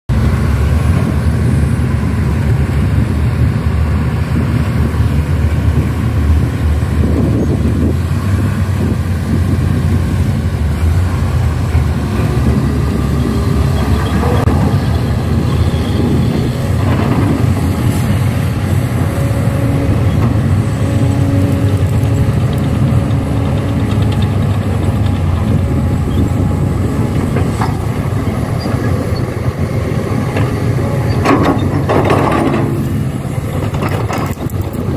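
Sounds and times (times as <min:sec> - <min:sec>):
heavy diesel engines rumbling: 0:00.1 - 0:34.9.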